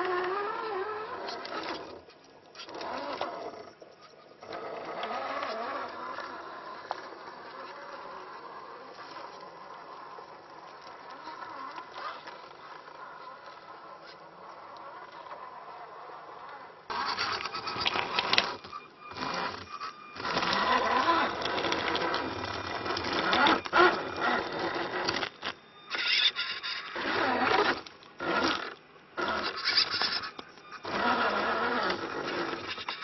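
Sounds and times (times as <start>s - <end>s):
toy car motor whining: 0.0s - 33.0s.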